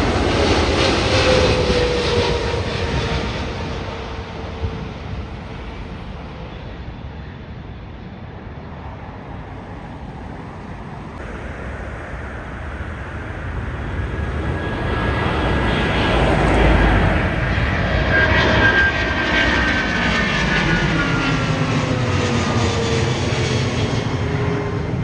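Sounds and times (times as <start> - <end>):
jet airliner engine rush: 0.0 - 25.0.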